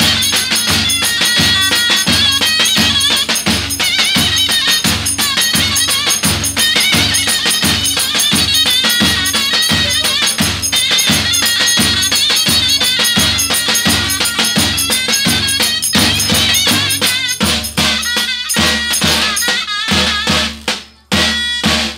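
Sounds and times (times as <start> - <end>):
bass drums beating: 0.0 - 18.0
reed pipe folk melody: 0.0 - 21.9.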